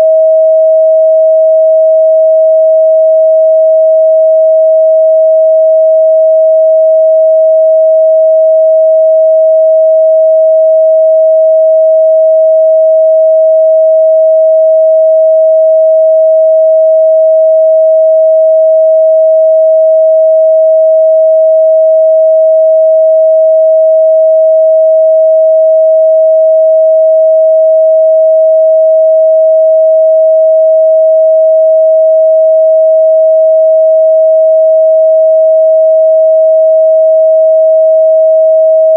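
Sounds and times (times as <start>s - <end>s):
sine-wave test tone: 0.0s - 38.9s.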